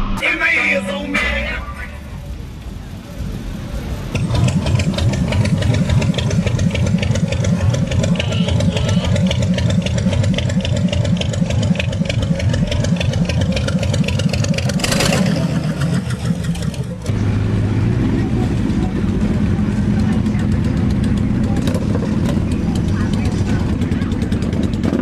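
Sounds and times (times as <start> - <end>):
exhaust pulsing rapidly: 1.8 - 25.0
car engine running: 2.0 - 25.0.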